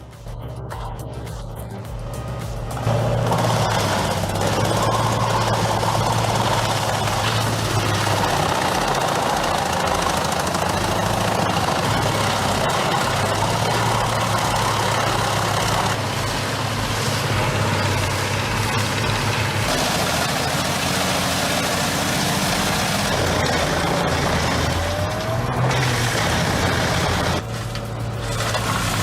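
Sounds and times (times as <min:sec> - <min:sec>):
wood chipper running: 0:02.7 - 0:29.0.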